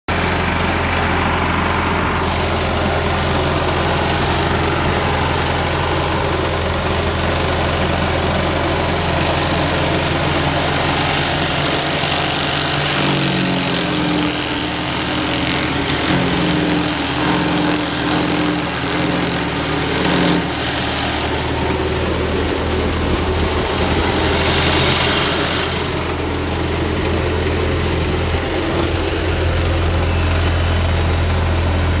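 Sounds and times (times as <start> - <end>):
tractor engine running: 0.0 - 32.0
wood chipper chipping clippings: 0.1 - 32.0.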